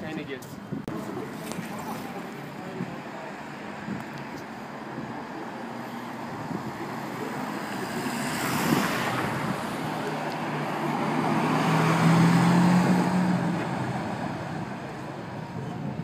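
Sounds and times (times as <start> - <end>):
street traffic passing: 0.0 - 16.0
car engine passing slowly: 2.0 - 16.0.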